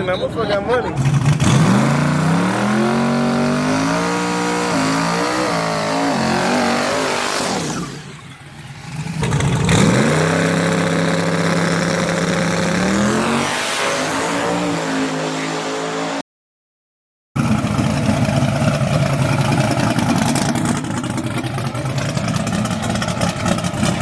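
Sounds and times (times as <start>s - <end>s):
truck engine accelerating: 0.9s - 16.2s, 17.4s - 24.0s.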